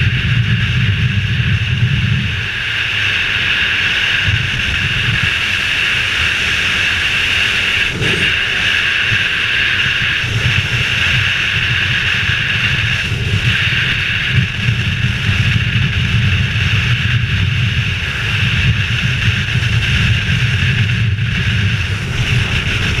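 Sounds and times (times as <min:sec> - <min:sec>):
motorcycle engine rumble: 0:00.0 - 0:23.0
wind rushing over helmet: 0:00.0 - 0:23.0.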